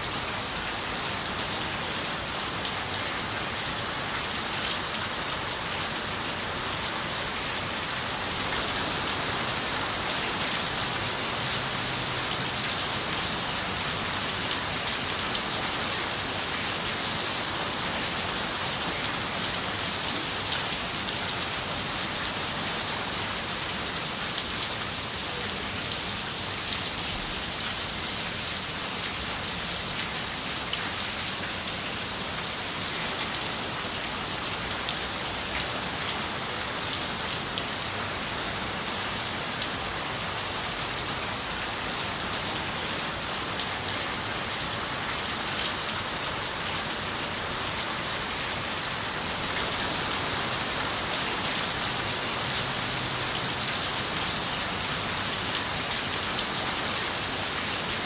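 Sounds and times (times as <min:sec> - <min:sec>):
rain on a window: 0:07.6 - 0:58.0.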